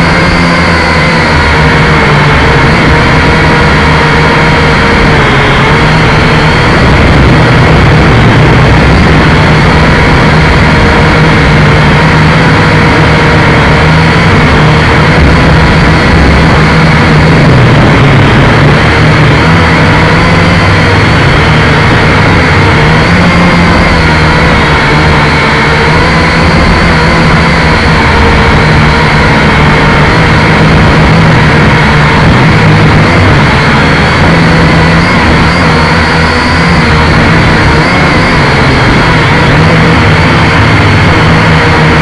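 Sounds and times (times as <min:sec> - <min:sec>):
drone propellers buzzing whine: 0:00.0 - 0:42.0
low rumble: 0:00.0 - 0:42.0.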